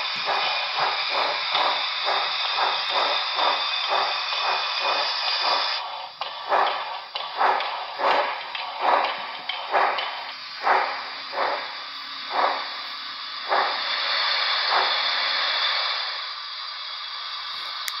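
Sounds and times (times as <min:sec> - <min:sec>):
simulated steam exhaust chuffs: 0:00.0 - 0:18.0
steady steam hiss: 0:00.0 - 0:18.0.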